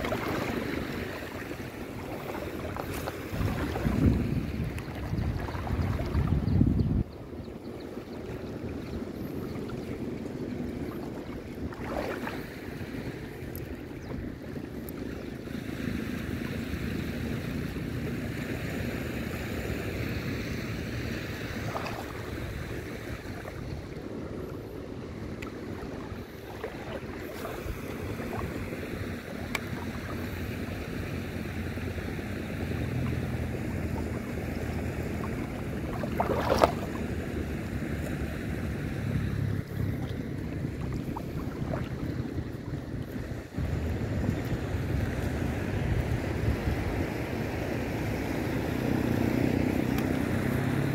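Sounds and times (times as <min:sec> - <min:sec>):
small waves lapping at shore: 0:00.0 - 0:50.9
wind on microphone: 0:00.0 - 0:50.9.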